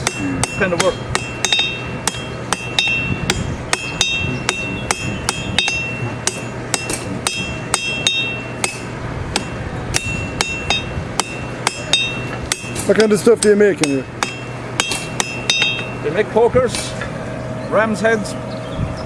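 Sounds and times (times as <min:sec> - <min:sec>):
hammer striking an anvil: 0:00.0 - 0:17.1.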